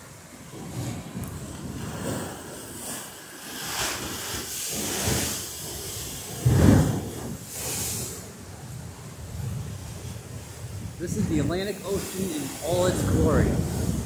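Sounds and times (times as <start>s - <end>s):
ocean surf breaking over rocks: 0.0s - 14.0s
wind buffeting microphone: 0.0s - 14.0s.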